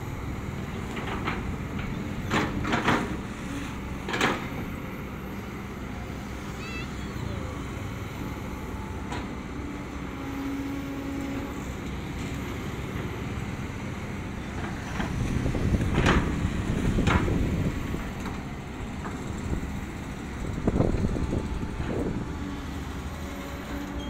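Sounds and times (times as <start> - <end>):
excavator engine and hydraulics: 0.0 - 24.0.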